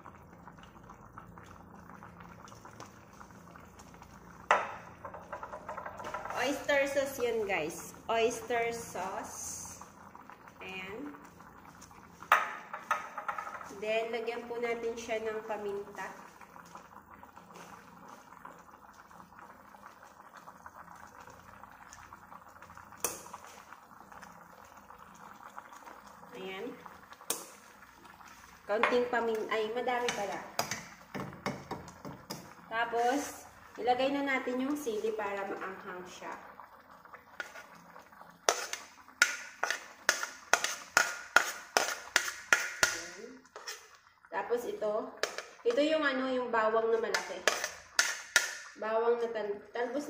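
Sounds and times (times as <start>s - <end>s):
sauce bubbling in a pot: 0.0s - 50.0s.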